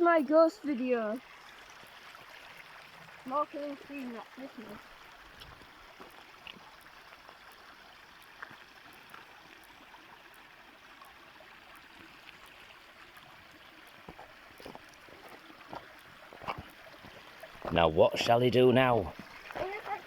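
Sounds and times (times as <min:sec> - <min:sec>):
stream running: 0:00.0 - 0:20.0.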